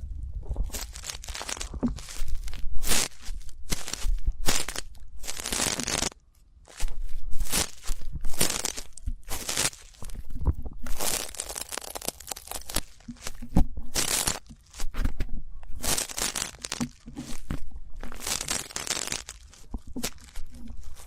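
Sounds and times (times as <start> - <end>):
ear pick scraping: 0.0 - 21.0.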